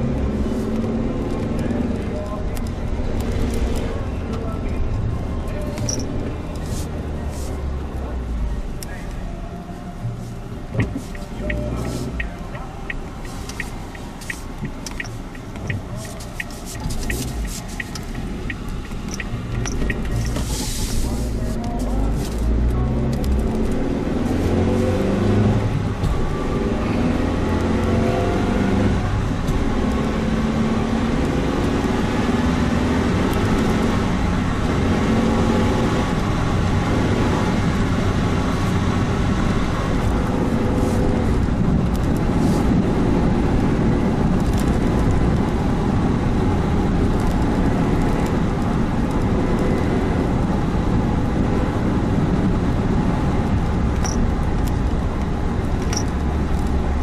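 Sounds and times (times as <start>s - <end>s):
car engine running: 0.0s - 57.0s
road noise: 0.0s - 57.0s.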